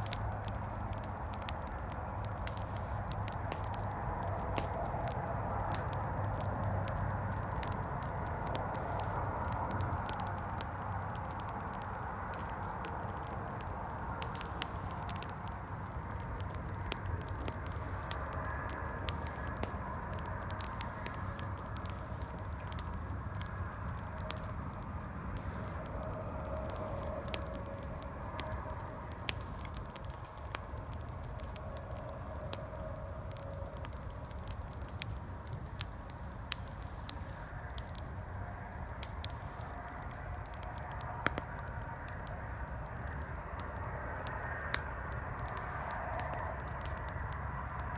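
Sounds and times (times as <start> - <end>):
campfire crackling and popping: 0.0 - 47.9
distant highway traffic rumble: 0.0 - 47.9.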